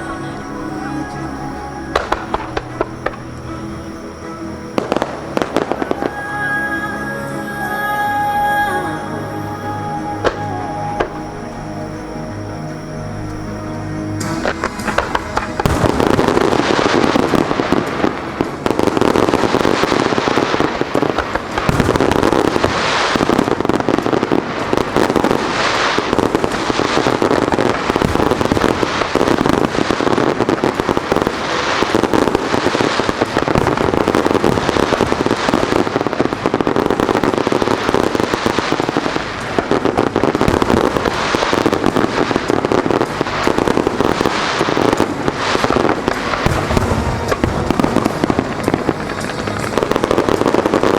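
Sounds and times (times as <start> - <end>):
firework bursts and crackling: 0.0 - 50.9.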